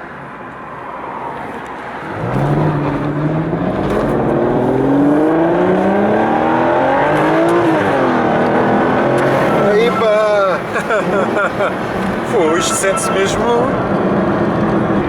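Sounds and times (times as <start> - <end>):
car engine accelerating hard: 2.0 - 15.0.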